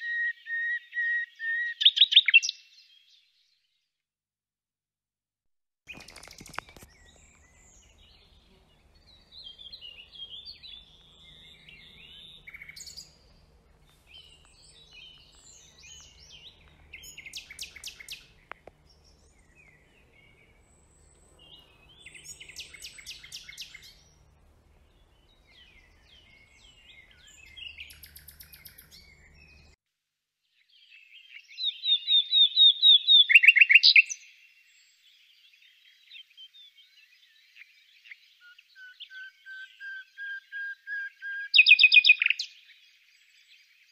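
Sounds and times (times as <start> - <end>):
nightingale singing: 0.0 - 3.2, 5.9 - 29.8, 30.8 - 43.8.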